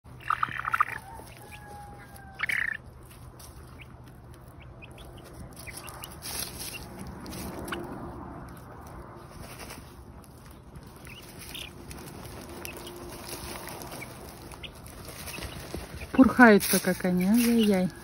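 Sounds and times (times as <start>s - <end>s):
chick calling: 0.1s - 7.9s, 10.8s - 18.0s
feathers scratching in dry soil: 0.1s - 18.0s.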